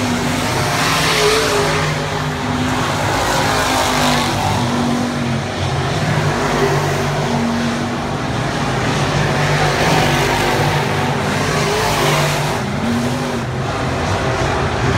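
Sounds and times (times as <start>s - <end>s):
race car engines roaring: 0.0s - 14.9s.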